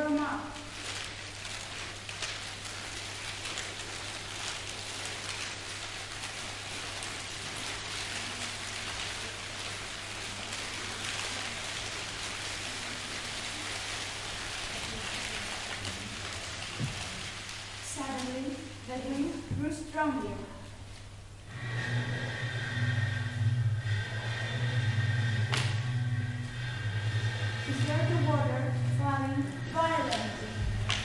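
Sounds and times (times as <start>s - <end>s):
crackling fire sound effect: 0.0s - 31.0s.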